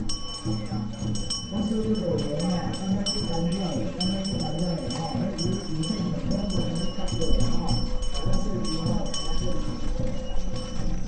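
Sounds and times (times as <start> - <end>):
music: 0.0 - 11.0
small bells ringing: 0.0 - 11.0
background voices: 0.1 - 11.0.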